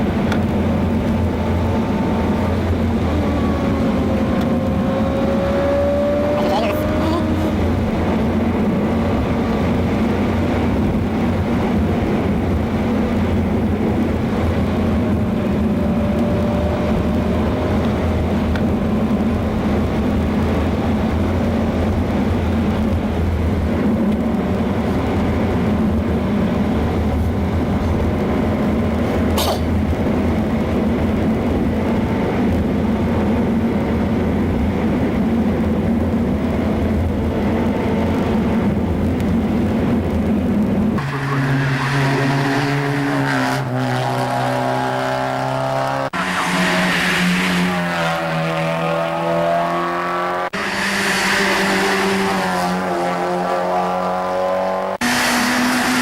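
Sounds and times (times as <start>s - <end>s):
race car engine running: 0.0s - 56.0s.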